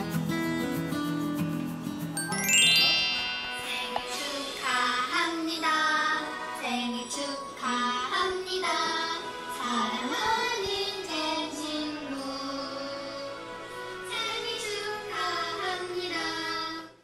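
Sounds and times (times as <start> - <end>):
background music: 0.0 - 17.0
person singing: 2.3 - 17.0.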